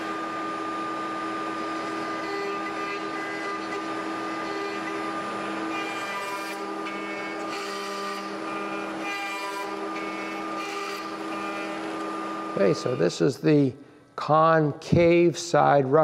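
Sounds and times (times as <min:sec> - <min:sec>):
router bit cutting wood: 0:00.0 - 0:13.4
cnc router spindle whine: 0:00.0 - 0:13.6.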